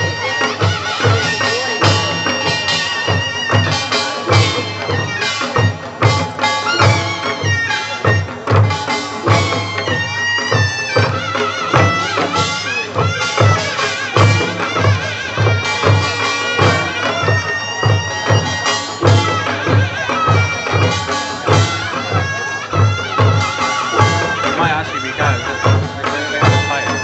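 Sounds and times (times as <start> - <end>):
reedy wind instrument melody: 0.0 - 27.0
steady drumbeat: 0.0 - 27.0.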